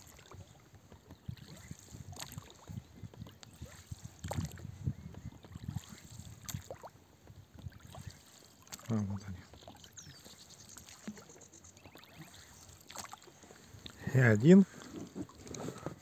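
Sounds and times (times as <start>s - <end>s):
water lapping against hull: 0.0s - 16.0s.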